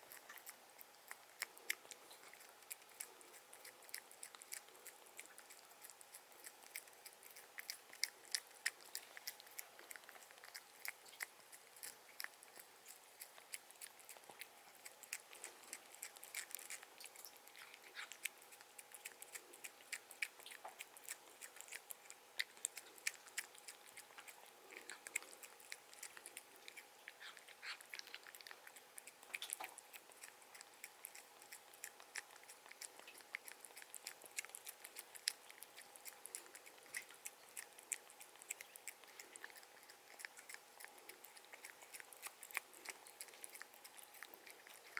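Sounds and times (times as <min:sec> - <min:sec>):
cat crunching food: 0:00.0 - 0:44.9.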